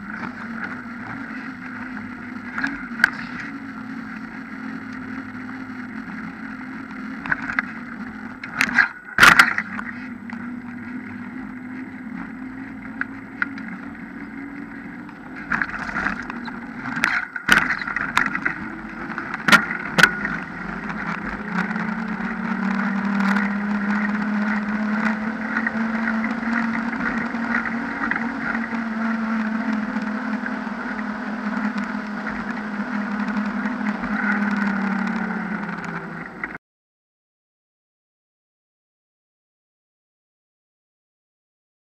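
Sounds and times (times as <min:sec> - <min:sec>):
bike rattling on bumps: 0:00.0 - 0:36.6
bike tyre humming on asphalt: 0:00.0 - 0:36.6.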